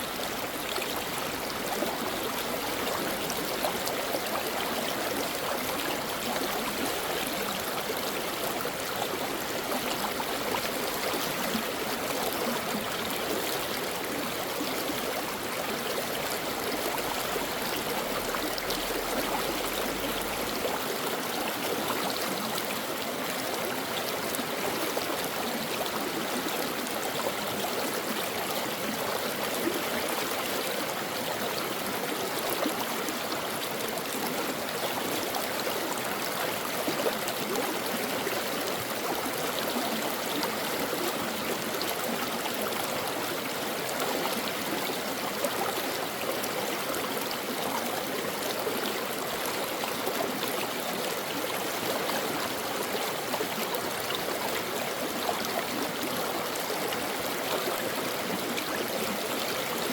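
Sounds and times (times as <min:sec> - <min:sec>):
brook babbling over rocks: 0:00.0 - 0:59.9.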